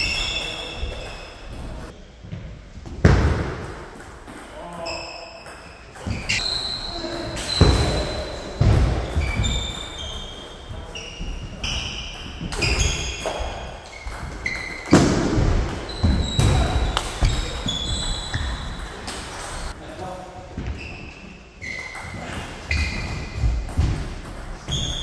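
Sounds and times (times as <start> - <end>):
shoes squeaking on floor: 0.0 - 2.0, 4.8 - 19.8, 20.6 - 24.0, 24.6 - 25.0.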